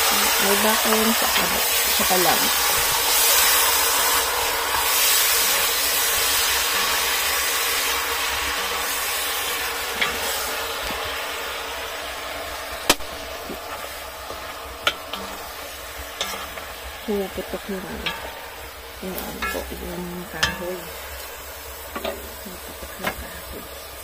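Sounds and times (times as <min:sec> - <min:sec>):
firewood popping: 0:00.0 - 0:24.0
wood fire hissing: 0:00.0 - 0:24.0.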